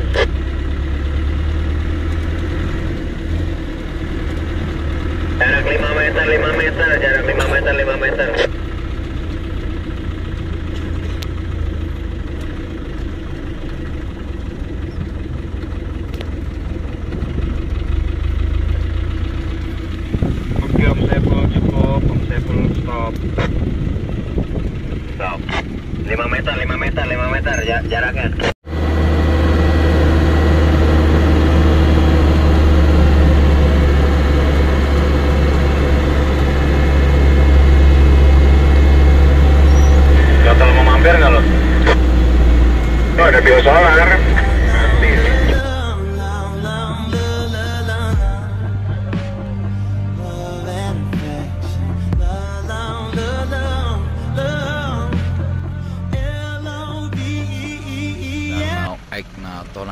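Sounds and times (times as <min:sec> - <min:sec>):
engine low rumble: 0:00.0 - 0:59.9.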